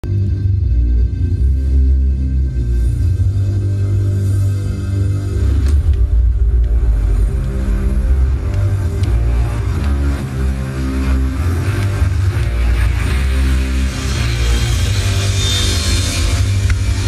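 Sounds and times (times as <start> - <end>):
music with held chords and heavy bass: 0.0 - 17.0.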